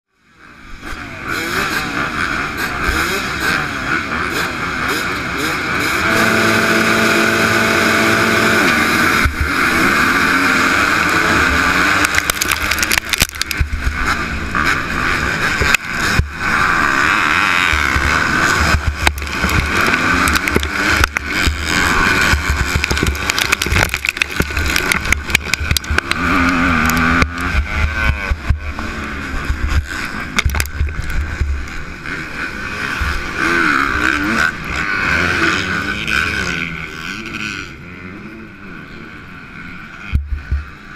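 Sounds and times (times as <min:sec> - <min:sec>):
motocross bike engine racing: 0:00.1 - 0:40.9
motocross bikes revving: 0:00.2 - 0:40.9.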